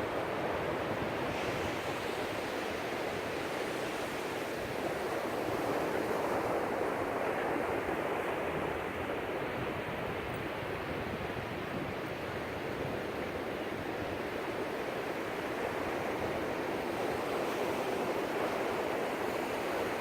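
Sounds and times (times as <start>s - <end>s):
waves breaking on beach: 0.1s - 20.0s.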